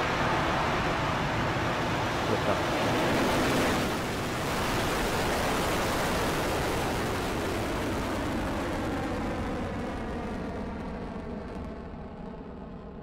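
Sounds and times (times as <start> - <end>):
rocket engines roaring at liftoff: 0.0 - 13.0.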